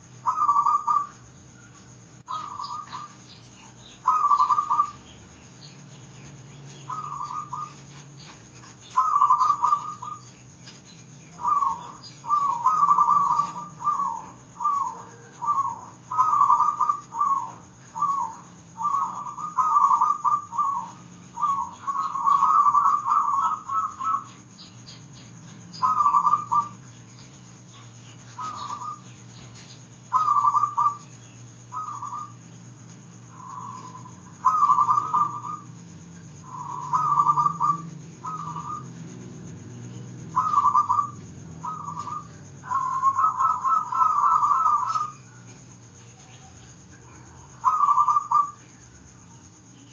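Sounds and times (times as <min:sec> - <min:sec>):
dove cooing in trills: 0:00.0 - 0:49.9
low steady hum: 0:00.0 - 0:49.9.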